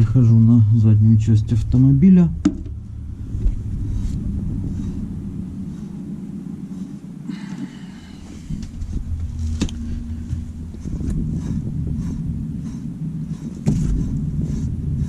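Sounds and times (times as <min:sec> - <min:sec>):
wheel bearing rumbling: 0:00.0 - 0:15.0.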